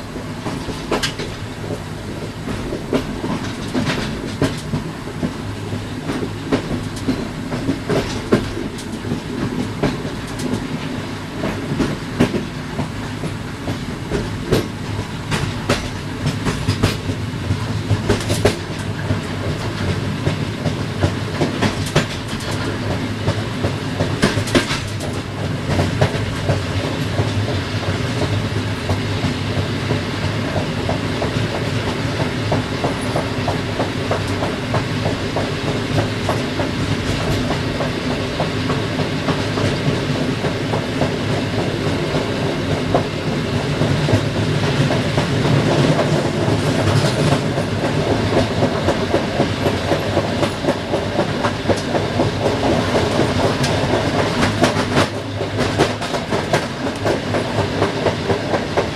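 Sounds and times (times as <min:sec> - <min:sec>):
train wheels rumbling: 0:00.0 - 0:58.9
train wheels clacking over rail joints: 0:00.1 - 0:58.9.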